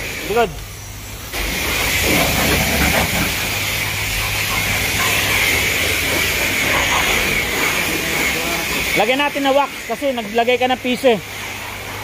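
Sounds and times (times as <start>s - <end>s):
pressure washer spraying water: 0.0s - 12.0s.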